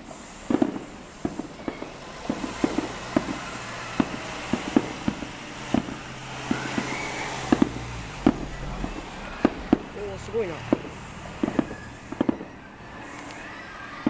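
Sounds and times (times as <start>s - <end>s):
fireworks bangs and crackling pops: 0.0s - 14.0s
low engine hum: 0.0s - 14.0s.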